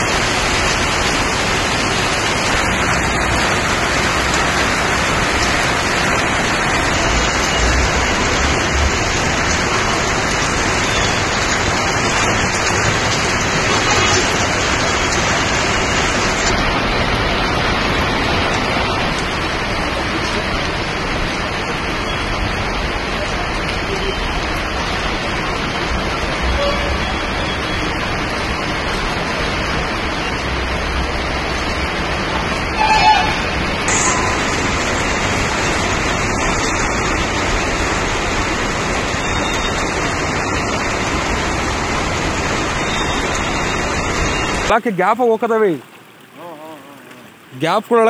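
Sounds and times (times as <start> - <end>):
heavy rain splashing on pavement: 0.0 - 48.0.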